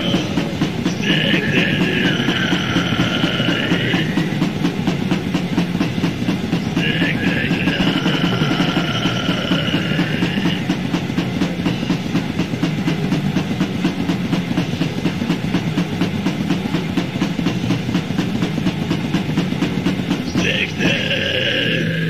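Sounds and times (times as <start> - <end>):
distorted electric guitar: 0.0 - 22.0
fast drumming: 0.0 - 22.0.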